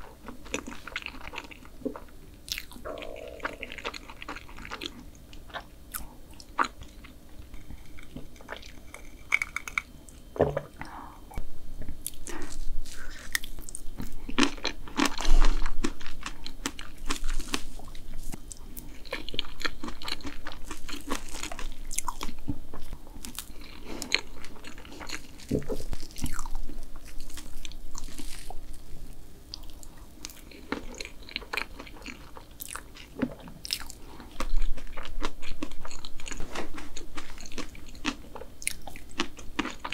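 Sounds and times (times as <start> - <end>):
person chewing: 0.0 - 10.2, 12.0 - 28.9, 29.5 - 39.9.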